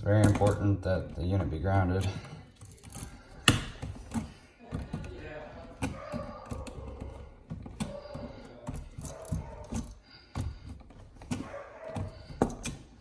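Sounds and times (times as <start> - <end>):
copper wires clicking and rattling: 0.0 - 13.0.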